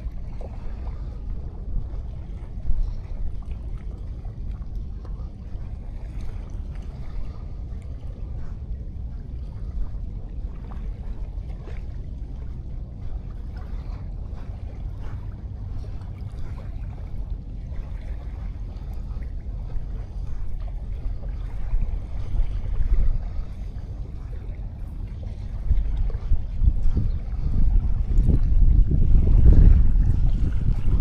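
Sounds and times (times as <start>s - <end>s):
sea waves washing on beach: 0.0s - 31.0s
wind on microphone: 0.0s - 31.0s.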